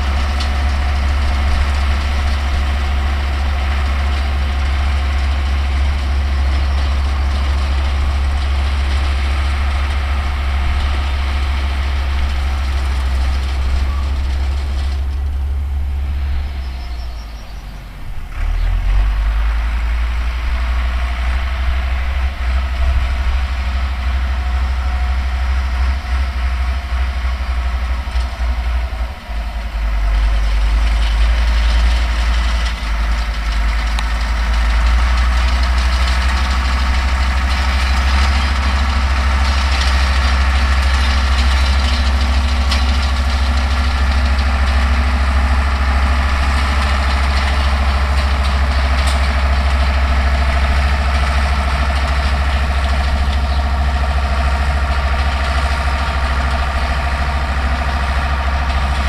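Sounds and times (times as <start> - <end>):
round baler machinery noise: 0.0 - 59.0
tractor diesel engine running: 0.0 - 59.0.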